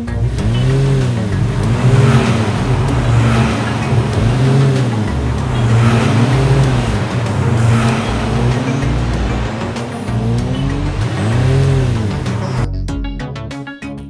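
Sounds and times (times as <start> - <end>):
cartoon engine revving: 0.0 - 12.7.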